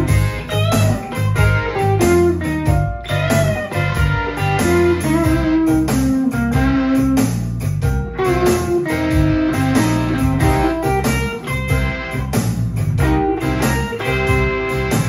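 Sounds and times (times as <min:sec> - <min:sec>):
bass line: 0:00.0 - 0:15.0
drum beat: 0:00.0 - 0:15.0
electric guitar lead melody: 0:00.0 - 0:15.0.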